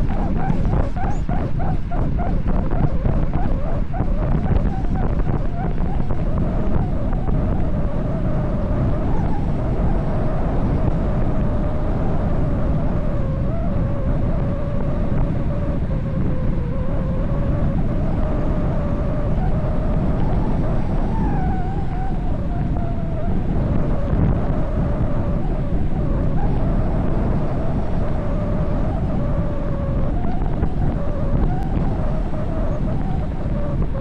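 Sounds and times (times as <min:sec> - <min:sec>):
faint wavering whistle: 0:00.0 - 0:34.0
wind rushing over microphone: 0:00.0 - 0:34.0.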